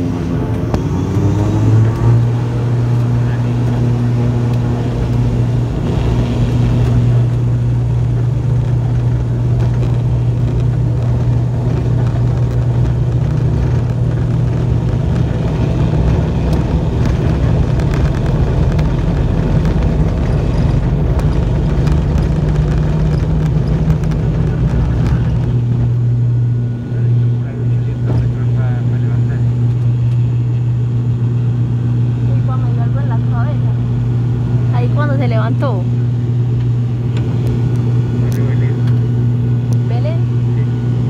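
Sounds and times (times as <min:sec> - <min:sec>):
low engine rumble: 0:00.0 - 0:41.0
propeller drone: 0:00.0 - 0:41.0.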